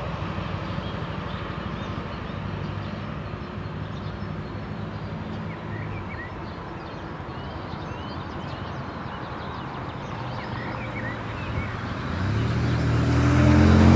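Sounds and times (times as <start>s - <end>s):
street traffic engine running: 0.0s - 13.9s
small birds chirping: 0.6s - 13.0s.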